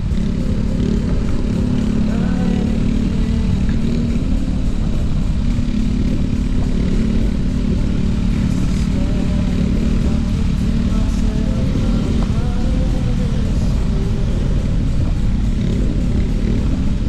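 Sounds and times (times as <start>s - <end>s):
motor vehicles running: 0.0s - 17.0s
wind rumble on microphone: 0.0s - 17.0s.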